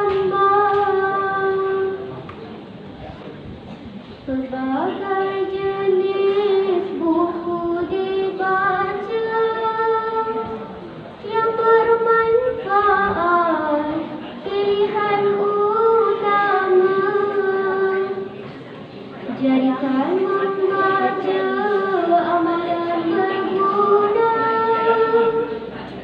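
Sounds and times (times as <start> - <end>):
girl singing into a microphone: 0.0 - 2.3, 4.2 - 18.4, 19.3 - 25.8.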